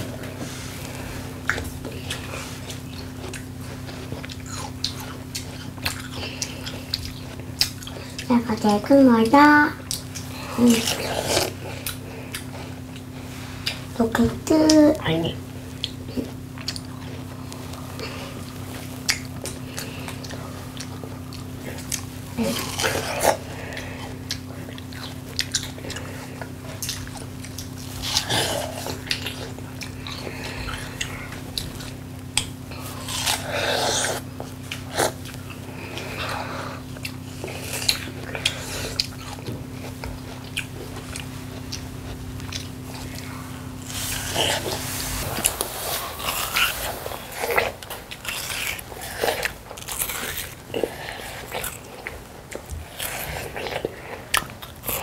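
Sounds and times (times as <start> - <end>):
children chewing watermelon: 0.0 - 55.0
steady low hum: 0.0 - 55.0.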